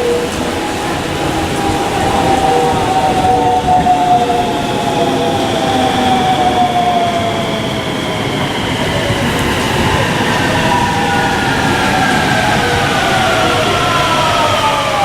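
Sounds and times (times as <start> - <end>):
electric train motor whine: 0.0 - 15.0.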